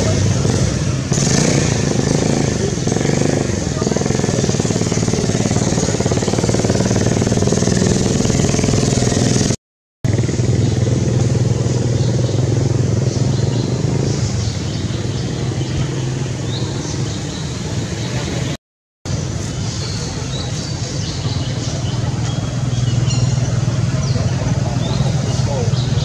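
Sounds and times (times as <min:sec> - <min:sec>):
motor engine running: 0:00.0 - 0:26.0.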